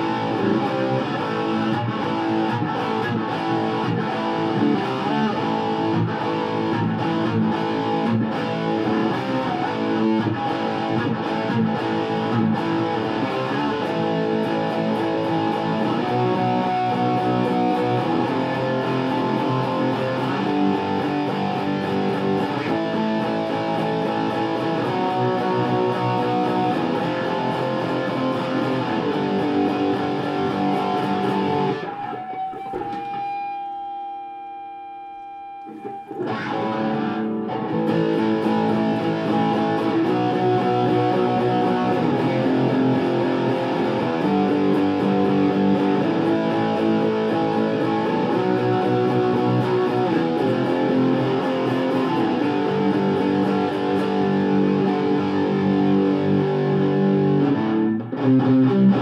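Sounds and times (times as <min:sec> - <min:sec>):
overdriven electric guitar chords: 0:00.0 - 0:59.0.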